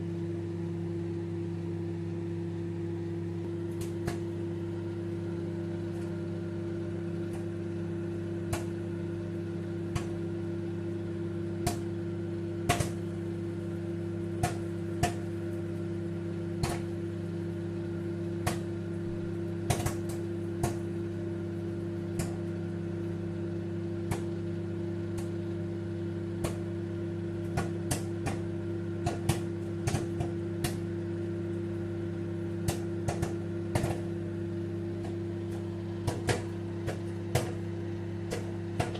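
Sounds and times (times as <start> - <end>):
microwave oven humming: 0.0 - 38.9
popcorn popping: 3.2 - 38.9.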